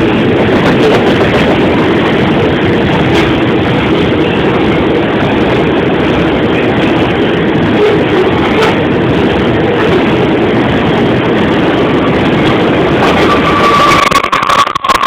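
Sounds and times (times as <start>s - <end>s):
steady high-pitched tone: 0.0s - 15.0s
train wheels rumbling on rails: 0.0s - 15.0s.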